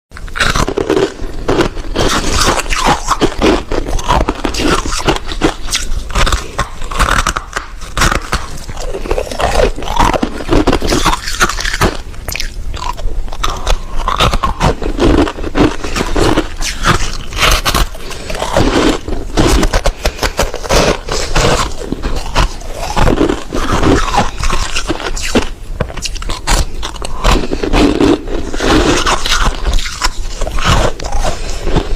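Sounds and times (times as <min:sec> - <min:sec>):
chewing crunchy ice: 0:00.2 - 0:31.9.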